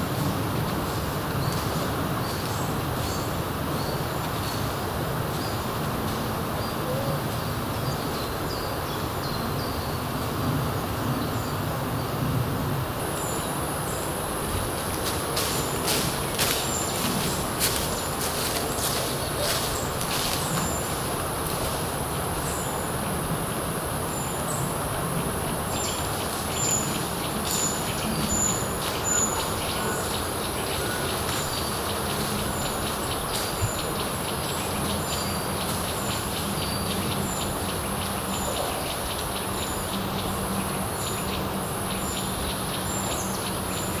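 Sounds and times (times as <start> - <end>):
steady high-pitched hiss: 0.0 - 44.0
steady rushing noise: 0.0 - 44.0.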